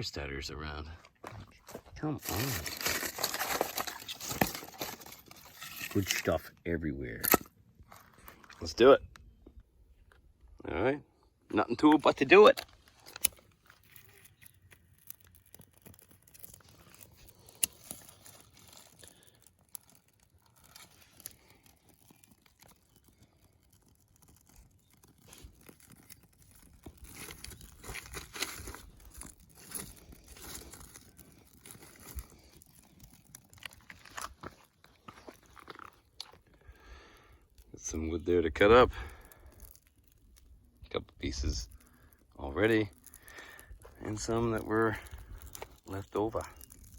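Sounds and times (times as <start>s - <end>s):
twigs and bark rustling: 0.0s - 46.9s
dry twigs snapping: 1.6s - 6.4s, 7.2s - 10.2s, 11.9s - 46.9s.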